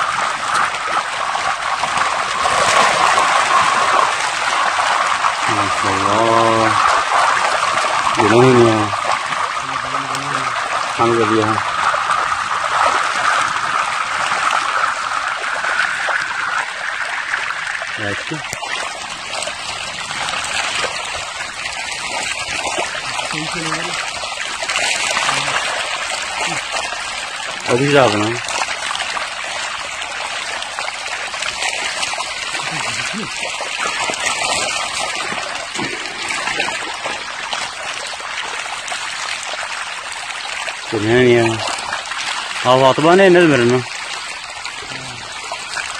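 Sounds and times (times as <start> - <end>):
river water rushing over stones: 0.0 - 45.9.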